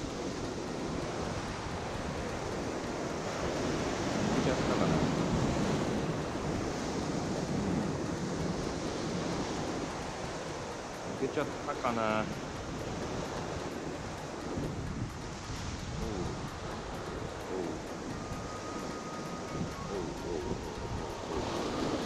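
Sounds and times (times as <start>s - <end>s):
waves washing over rocks: 0.0s - 22.0s
wind buffeting microphone: 0.0s - 22.0s.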